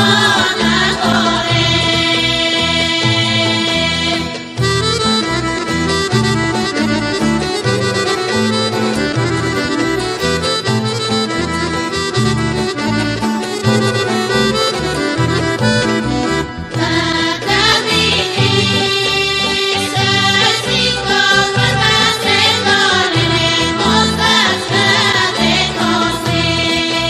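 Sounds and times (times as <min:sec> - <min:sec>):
instrumental folk music: 0:00.0 - 0:27.0.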